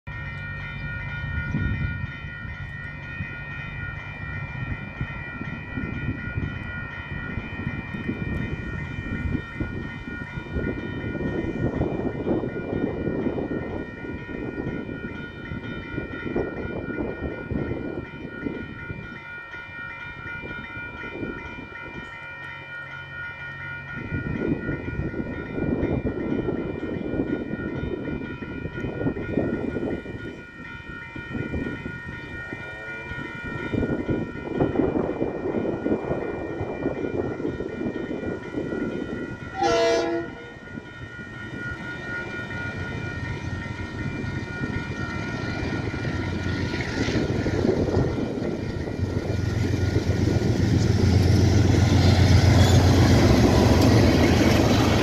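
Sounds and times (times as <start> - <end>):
level crossing warning bells: 0.1 - 55.0.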